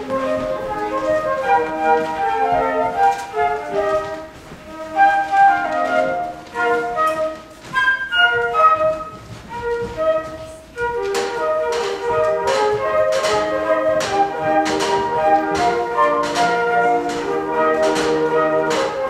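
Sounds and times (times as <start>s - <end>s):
flute quartet playing: 0.0s - 19.0s.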